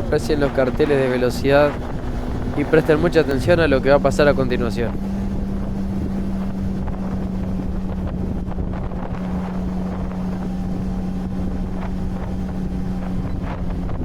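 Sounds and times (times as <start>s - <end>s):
motorcycle engine cruising: 0.0s - 14.0s
wind on microphone: 0.0s - 14.0s.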